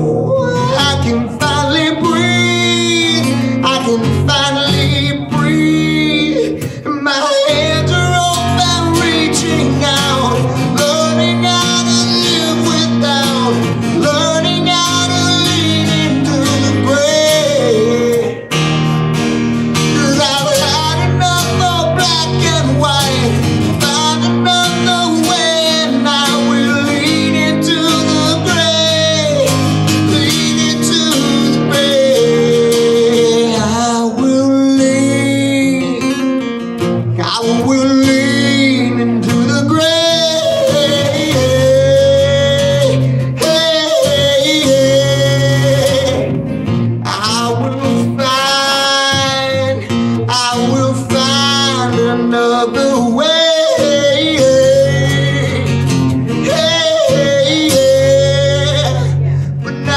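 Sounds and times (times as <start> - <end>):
man singing into microphone: 0.0 - 18.9, 19.7 - 59.9
acoustic guitar strumming: 0.0 - 59.9.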